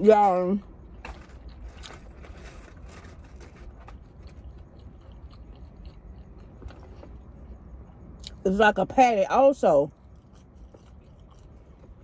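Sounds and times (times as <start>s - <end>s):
person chewing food: 0.6s - 8.4s, 9.9s - 12.0s.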